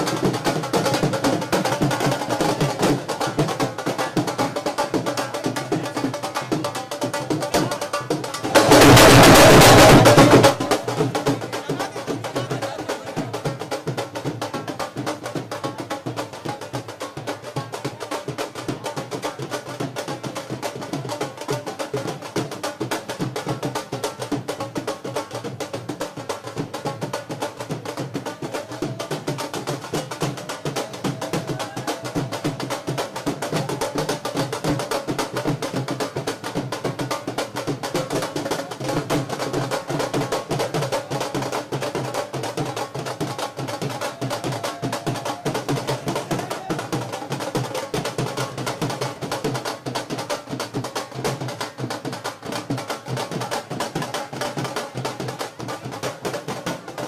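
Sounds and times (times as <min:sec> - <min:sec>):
crowd voices: 0:00.0 - 0:57.0
rapid drum beat: 0:00.0 - 0:57.0.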